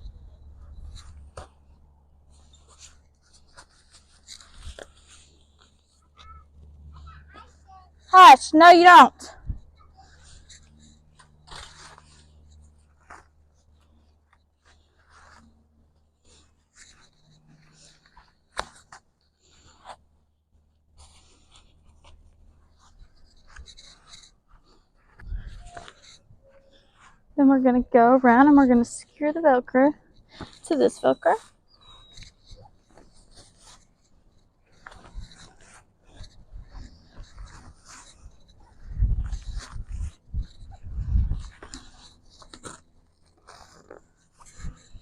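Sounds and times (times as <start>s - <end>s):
fabric rustling and scraping: 0.2s - 8.1s, 9.6s - 27.4s, 30.0s - 45.0s.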